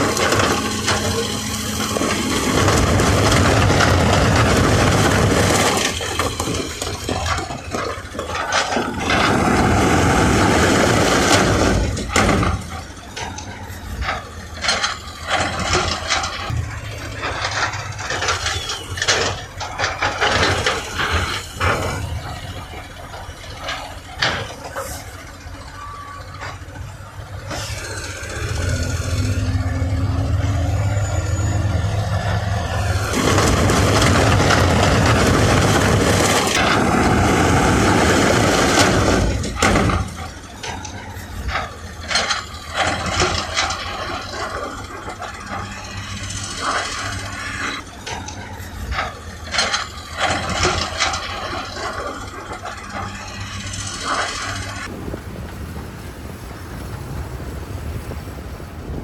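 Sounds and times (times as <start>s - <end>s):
machinery clanks and scrapes: 0.0s - 55.6s
diesel engine running: 0.0s - 59.0s.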